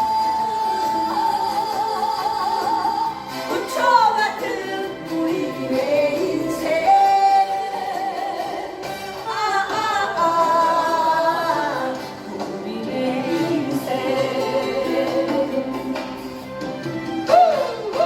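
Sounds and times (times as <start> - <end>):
instrumental accompaniment: 0.0 - 18.0
woman singing: 0.0 - 18.0.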